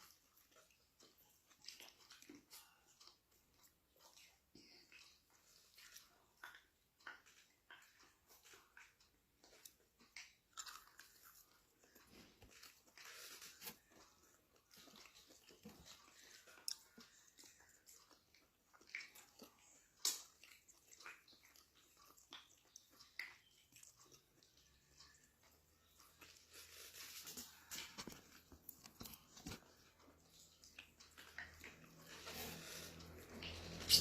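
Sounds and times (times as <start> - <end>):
person chewing and crunching food: 0.0 - 34.0.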